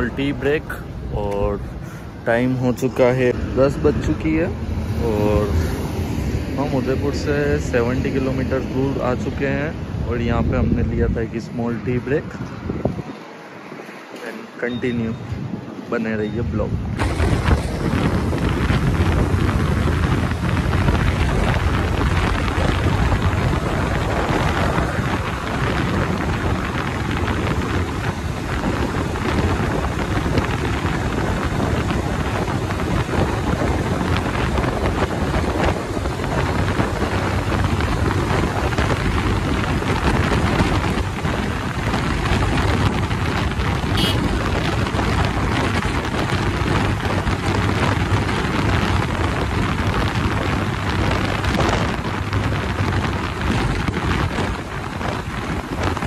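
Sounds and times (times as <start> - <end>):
wind noise on microphone: 0.0 - 13.9, 14.6 - 56.0.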